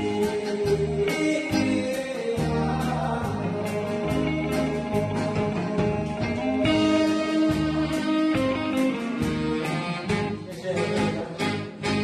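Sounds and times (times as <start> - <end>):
guitar: 0.0 - 12.0
steady beat: 0.0 - 12.0
sustained melody notes: 0.0 - 12.0.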